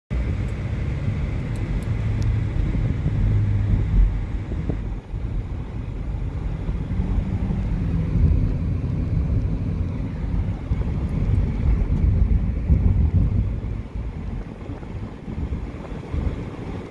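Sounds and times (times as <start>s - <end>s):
motorcycle engine rumble: 0.1s - 16.9s
wind rush: 0.1s - 16.9s.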